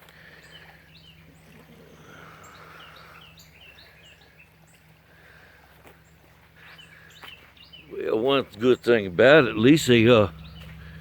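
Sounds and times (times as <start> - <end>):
faint low hum: 0.0 - 11.0
small birds chirping: 0.0 - 11.0.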